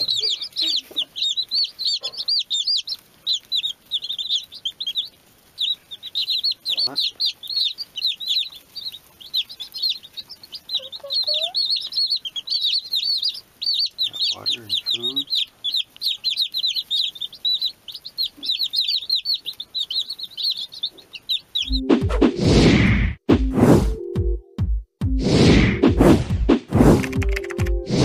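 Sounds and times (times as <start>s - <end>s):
baby chicks peeping: 0.0s - 22.6s, 27.0s - 27.8s.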